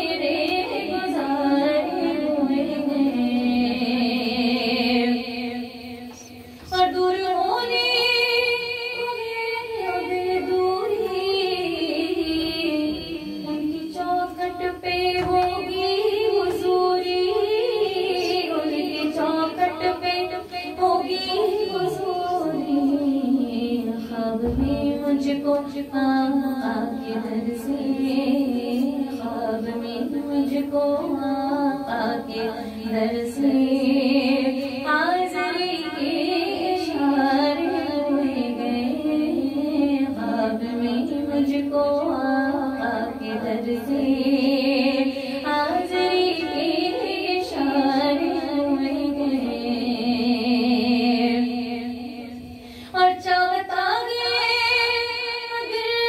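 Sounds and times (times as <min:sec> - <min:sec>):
woman singing into a microphone: 0:00.0 - 0:56.0.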